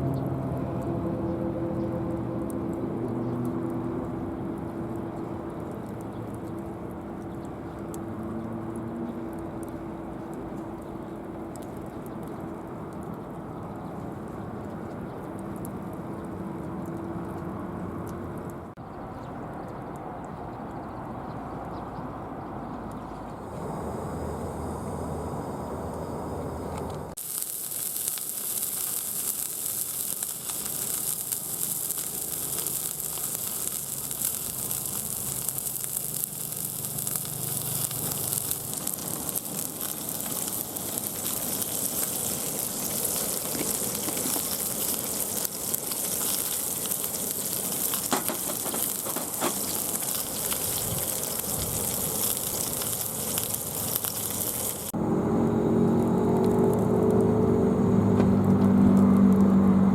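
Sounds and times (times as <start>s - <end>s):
fire sizzling and crackling: 0.0s - 18.8s, 26.8s - 59.9s.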